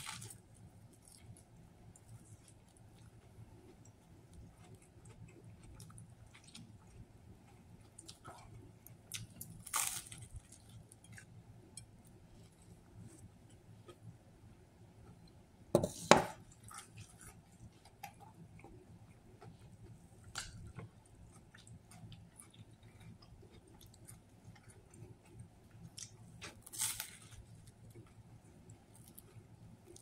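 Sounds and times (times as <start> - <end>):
person chewing a sandwich: 0.0 - 15.7, 16.4 - 30.0.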